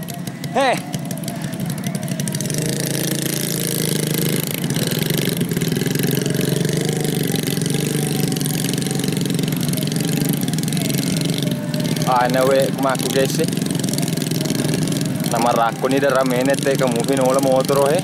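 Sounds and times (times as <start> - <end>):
small motorcycle engines running: 0.0 - 18.0.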